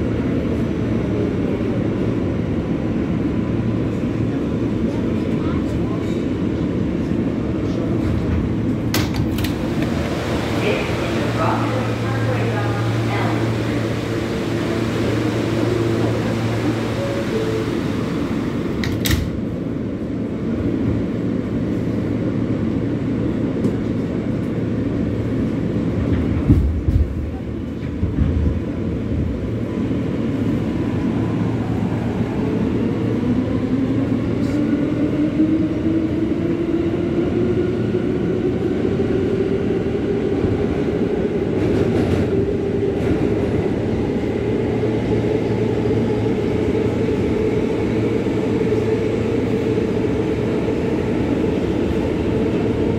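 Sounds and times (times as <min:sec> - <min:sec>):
rising train whine: 0:00.0 - 0:52.9
train car rumble: 0:00.0 - 0:52.9.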